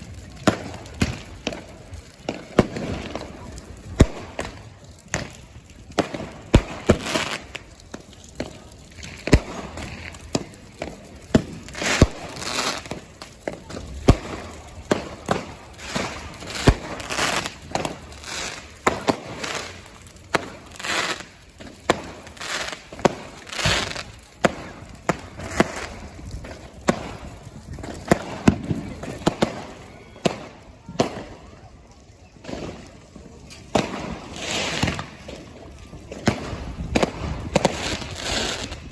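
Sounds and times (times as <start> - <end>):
firework bangs: 0.0 - 31.6, 32.4 - 38.9
fireworks crackling and fizzing: 0.0 - 38.9.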